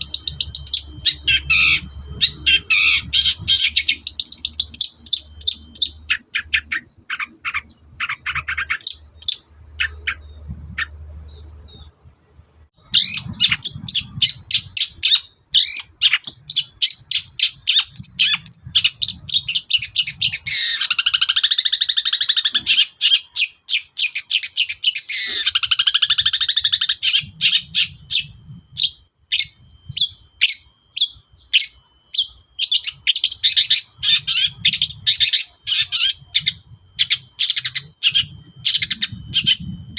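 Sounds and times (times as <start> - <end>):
harsh rasping bird calls: 0.0 - 12.0, 12.8 - 39.8
bird singing high chirps: 0.0 - 39.9.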